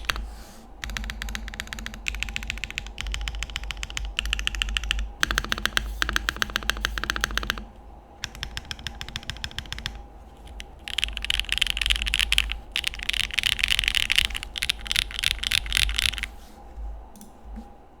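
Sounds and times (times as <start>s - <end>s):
mechanical keyboard typing: 0.0s - 16.4s.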